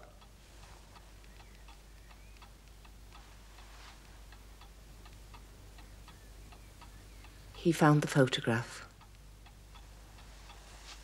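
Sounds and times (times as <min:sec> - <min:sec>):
clock ticking: 0:00.0 - 0:11.0
low room hum: 0:00.0 - 0:11.0.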